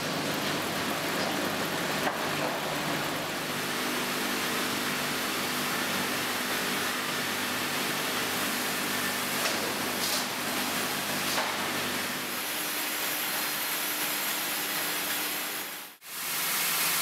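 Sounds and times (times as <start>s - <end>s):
sawmill machinery humming: 0.0s - 17.0s.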